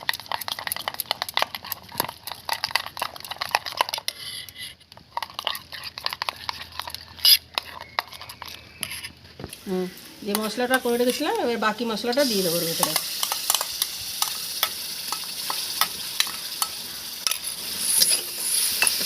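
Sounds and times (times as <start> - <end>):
spoon beating mix in a bowl: 0.0 - 4.2, 4.9 - 9.2, 10.3 - 19.0.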